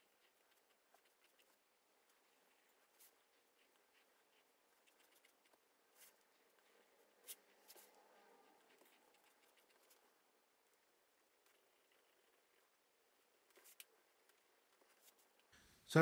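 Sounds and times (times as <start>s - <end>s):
pen scratching on paper: 0.0s - 15.5s.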